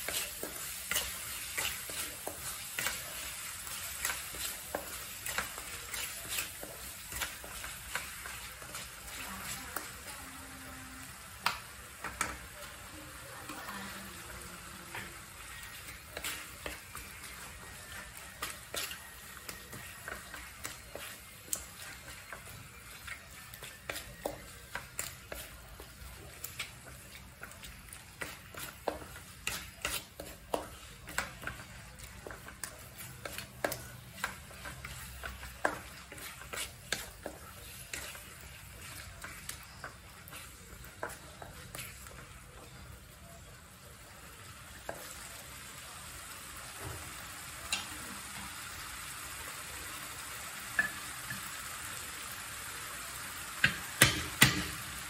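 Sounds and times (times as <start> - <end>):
soft frying sizzle: 0.0 - 55.0.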